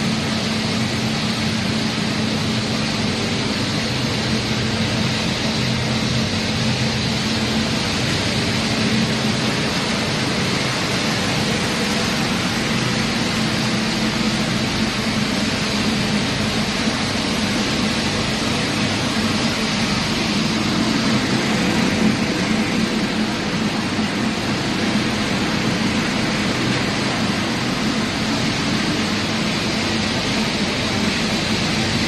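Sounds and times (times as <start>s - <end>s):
motors and blower humming: 0.0s - 32.0s
steady hiss: 0.0s - 32.0s.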